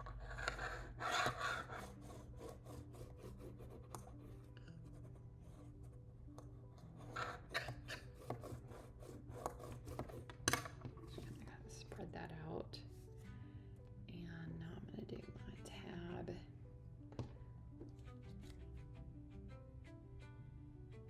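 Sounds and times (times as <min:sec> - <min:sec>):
faint soft background music: 0:00.0 - 0:21.0.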